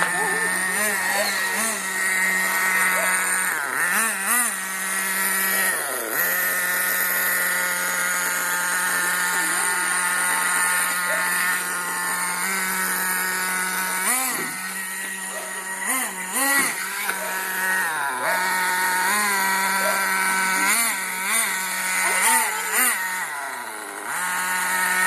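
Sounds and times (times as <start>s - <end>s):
small toy motor humming: 0.0s - 25.0s.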